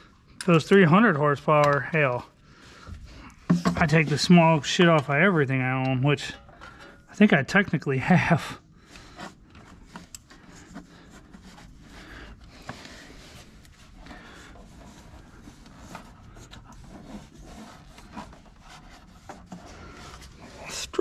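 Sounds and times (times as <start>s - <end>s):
faint scraping and rubbing: 0.5s - 21.0s.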